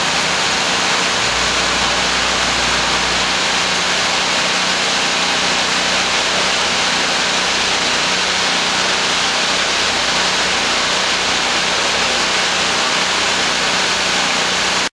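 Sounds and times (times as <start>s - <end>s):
waterfall hissing: 0.0s - 14.9s.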